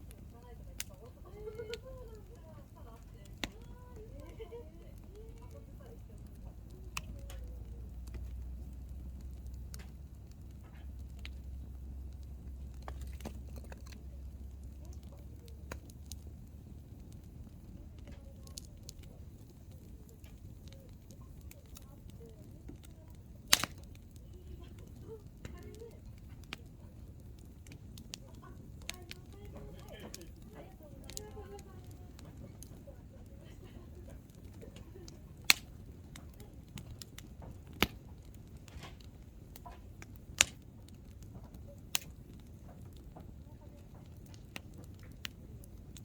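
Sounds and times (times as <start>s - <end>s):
campfire crackling: 0.0s - 46.0s
faint low rumble: 0.0s - 46.0s
logs popping: 0.0s - 46.0s.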